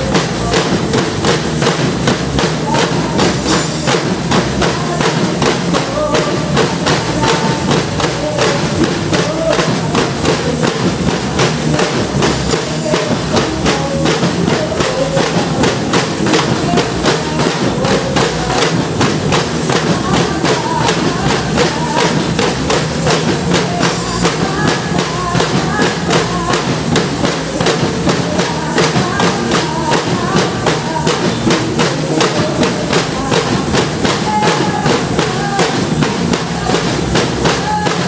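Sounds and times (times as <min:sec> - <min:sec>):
drums playing march beat: 0:00.0 - 0:38.0.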